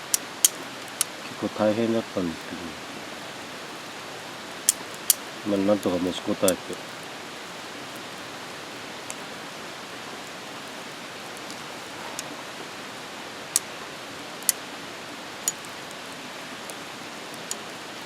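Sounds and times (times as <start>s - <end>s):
campfire crackling and popping: 0.0s - 18.0s
rain hissing: 0.0s - 18.0s.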